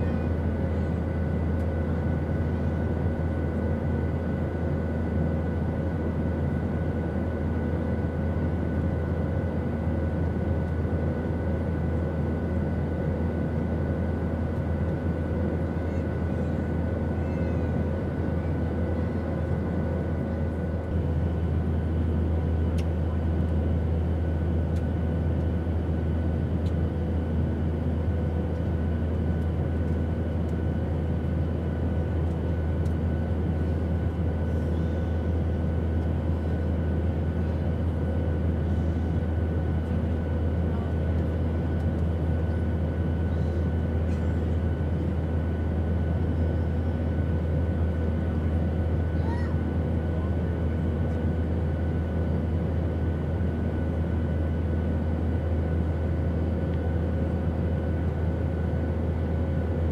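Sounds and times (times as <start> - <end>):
deep airplane drone: 0.0 - 59.9.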